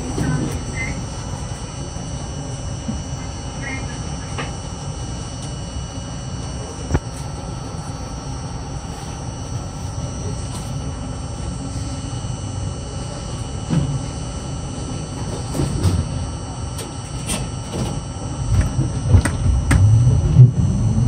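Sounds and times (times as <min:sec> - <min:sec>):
subway car rumbling: 0:00.0 - 0:21.0.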